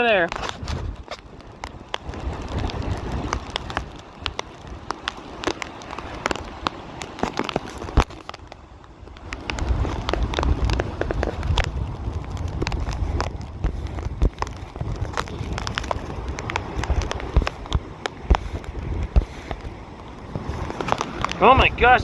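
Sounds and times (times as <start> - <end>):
rain ticking on microphone: 0.0 - 22.0
wind buffeting microphone: 0.0 - 22.0.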